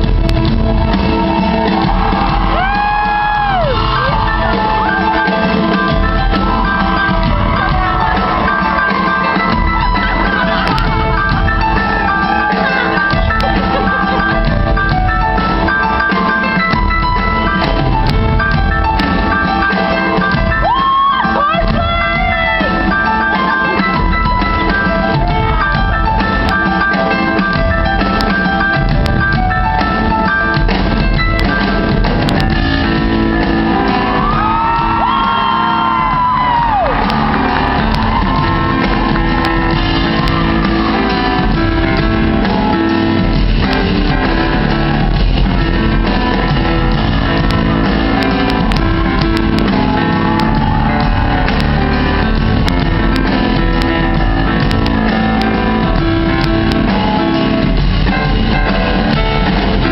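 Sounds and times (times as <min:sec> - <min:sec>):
muffled live rock band: 0:00.0 - 0:59.9.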